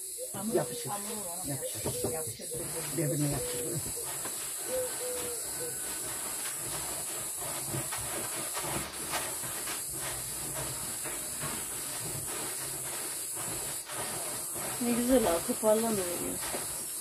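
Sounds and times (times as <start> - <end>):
steady high hiss: 0.0 - 17.0
hands rustling grain in metal tray: 0.4 - 17.0.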